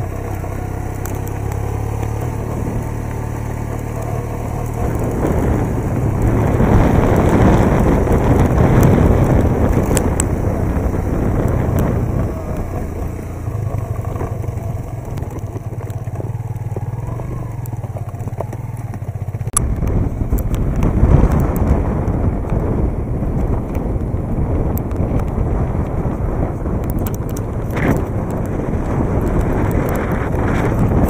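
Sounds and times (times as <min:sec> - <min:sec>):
road noise: 0:00.0 - 0:31.0
vehicle engine running: 0:00.0 - 0:31.0
wind noise: 0:00.0 - 0:31.0.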